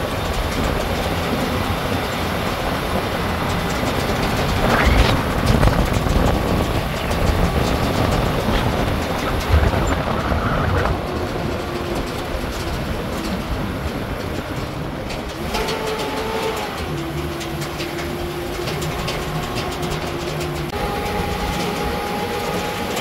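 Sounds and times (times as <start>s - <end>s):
truck body rattling over bumps: 0.0s - 23.0s
truck engine droning: 0.0s - 23.0s.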